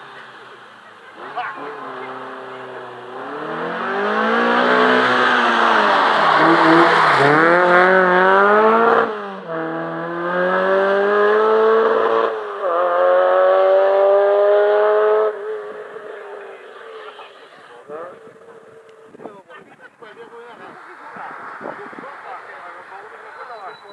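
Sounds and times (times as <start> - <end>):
rally car engine at full throttle: 0.0 - 23.9.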